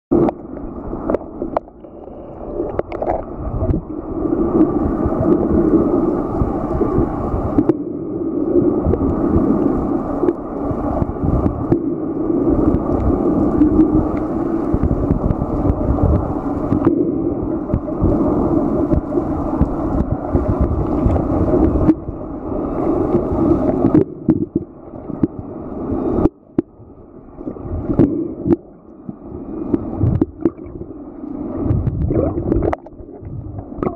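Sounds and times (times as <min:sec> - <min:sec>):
underwater water gurgling: 0:00.1 - 0:33.9.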